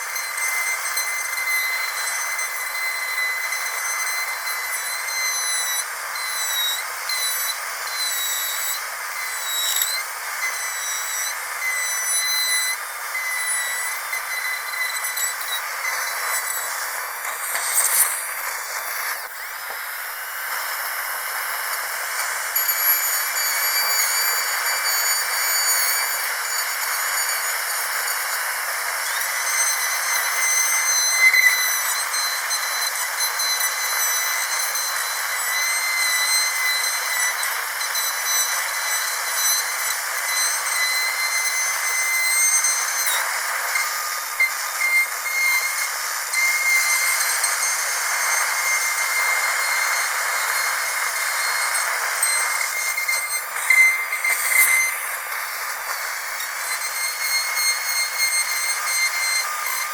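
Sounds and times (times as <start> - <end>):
dentist's drill whining: 0.0 - 59.9.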